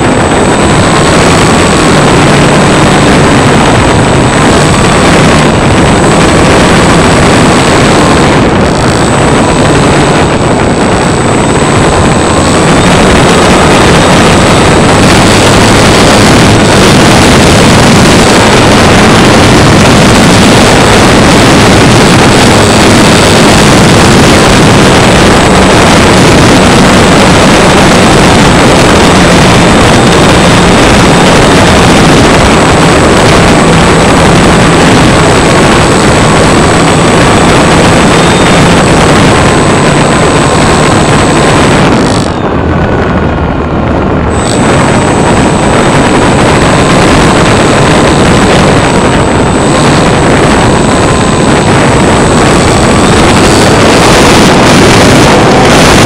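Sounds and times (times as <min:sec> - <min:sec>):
electric motor whine: 0:00.0 - 0:56.0
propeller wash and air rush: 0:00.0 - 0:56.0.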